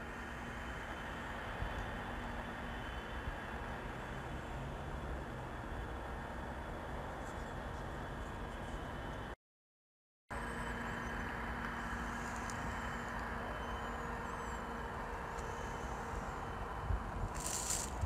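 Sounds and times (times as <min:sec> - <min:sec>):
distant road traffic rumble: 0:00.0 - 0:09.4, 0:10.3 - 0:18.0
faint constant hum: 0:00.0 - 0:09.4, 0:10.3 - 0:18.0.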